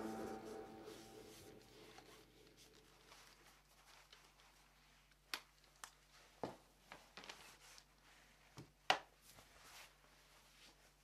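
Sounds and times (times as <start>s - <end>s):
soft rustling: 0.0s - 11.0s.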